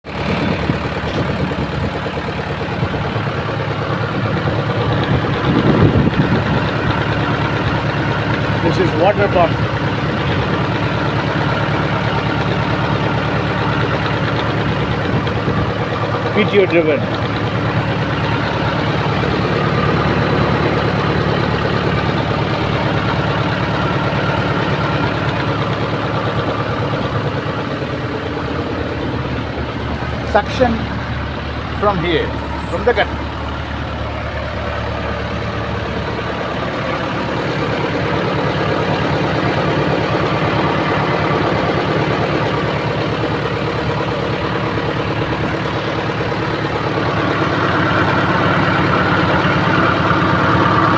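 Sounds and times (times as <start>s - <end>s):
tractor engine running: 0.0s - 50.9s
water pump drawing water: 0.1s - 50.9s.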